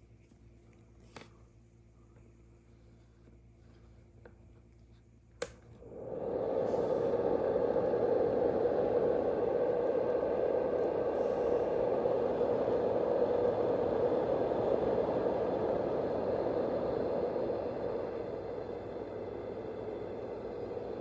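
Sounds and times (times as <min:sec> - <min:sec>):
white noise machine fan: 0:00.0 - 0:21.0.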